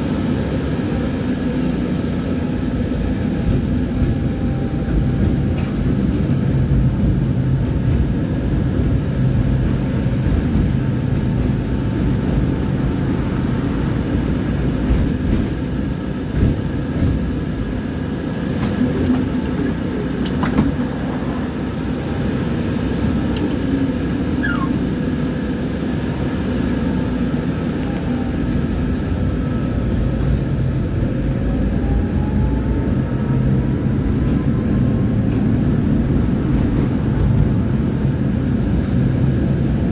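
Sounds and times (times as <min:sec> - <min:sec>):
tram wheels rumbling on track: 0:00.0 - 0:39.9.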